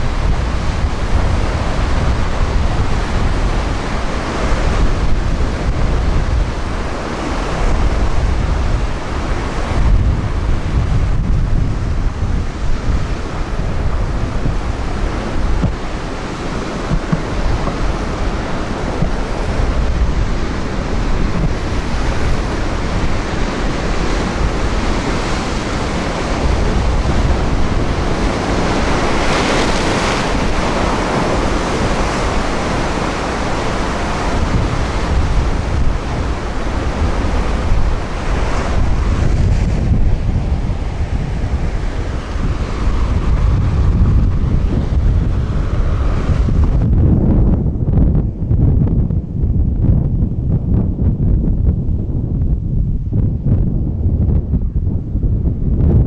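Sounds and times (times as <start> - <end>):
surf breaking on rocks: 0.0 - 48.0
wind buffeting microphone: 0.0 - 56.0.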